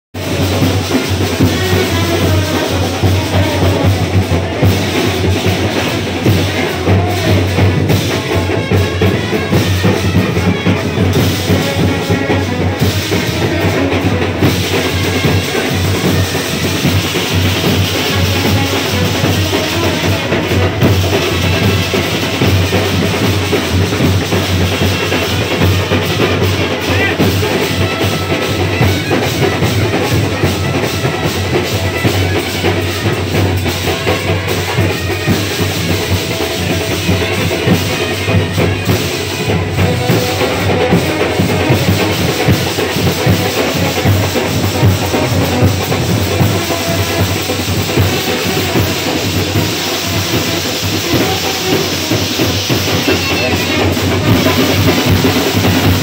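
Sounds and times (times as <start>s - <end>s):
music with busy drumming: 0.1s - 56.0s.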